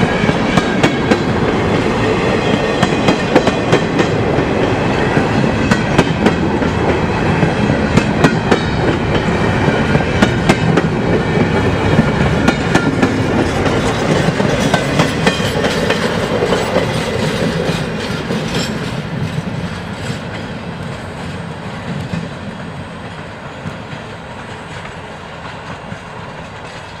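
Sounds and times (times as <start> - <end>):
freight train rolling past: 0.0 - 27.0
wheels clicking over rail joints: 0.0 - 27.0.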